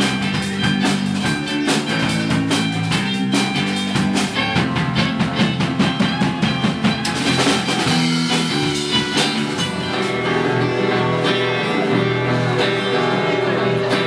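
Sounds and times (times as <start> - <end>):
live band playing instrumental: 0.0 - 14.0.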